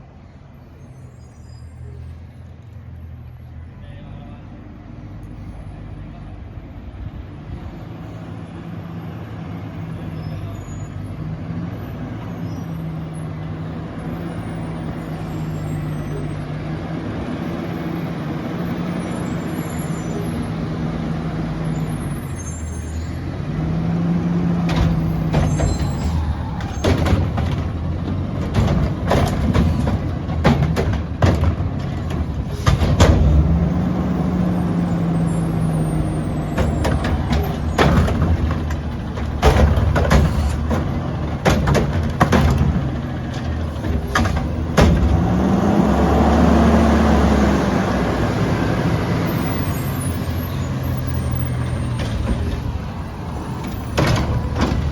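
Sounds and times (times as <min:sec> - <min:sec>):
garbage truck engine running: 0:05.4 - 0:54.9.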